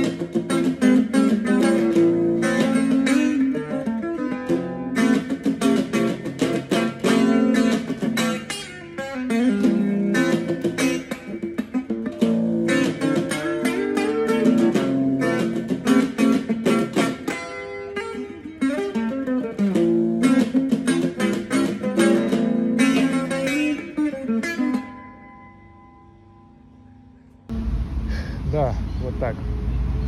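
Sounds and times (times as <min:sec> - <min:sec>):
plucked guitar music: 0:00.0 - 0:27.5.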